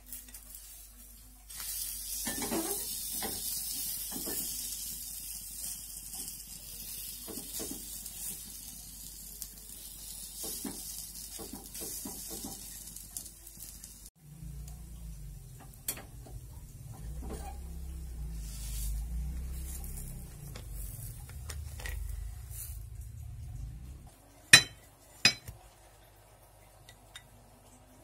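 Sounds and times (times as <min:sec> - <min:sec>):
batter sizzling in a pan: 0:00.0 - 0:27.8.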